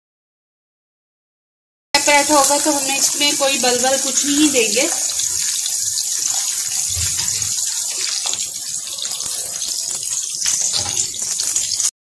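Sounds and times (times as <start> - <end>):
dough sizzling in hot oil: 2.0 - 12.0.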